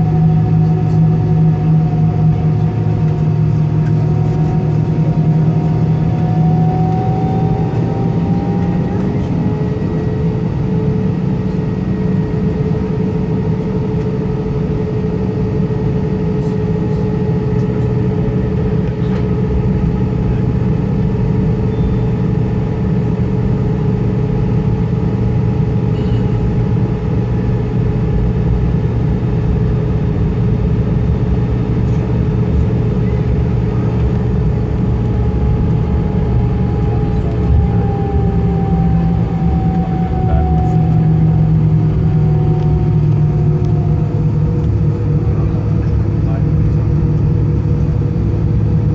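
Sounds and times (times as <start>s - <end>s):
jet engine rumble and whine: 0.0s - 48.9s.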